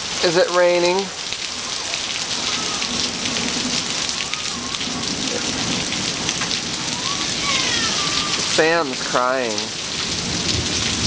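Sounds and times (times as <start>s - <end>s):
heavy rain falling: 0.0s - 11.0s
raindrops spattering close by: 0.0s - 11.0s.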